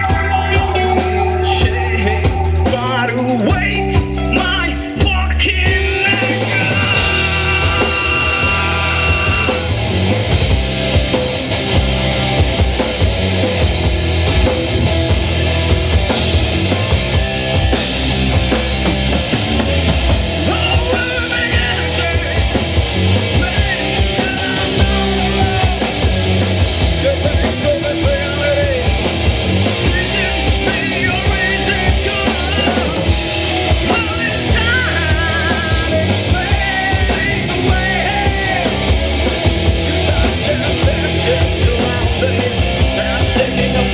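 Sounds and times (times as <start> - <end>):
electric guitars: 0.0 - 43.9
drum beat: 0.1 - 43.9.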